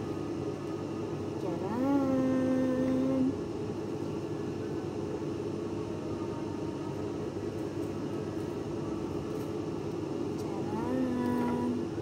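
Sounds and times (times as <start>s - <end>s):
fan whirring: 0.0s - 12.0s.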